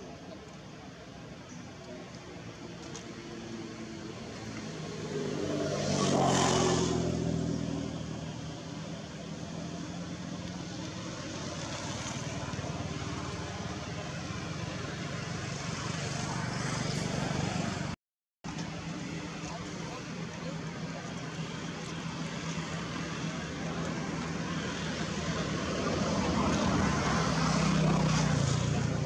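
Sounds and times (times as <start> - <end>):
vehicle engine passing by: 2.9 - 18.0, 19.4 - 29.0.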